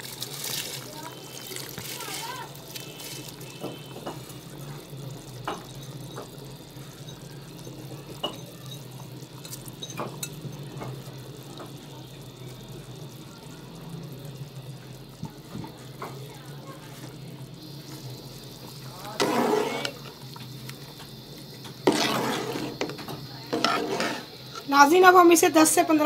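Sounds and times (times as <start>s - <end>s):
broth boiling in a pot: 0.0s - 26.0s.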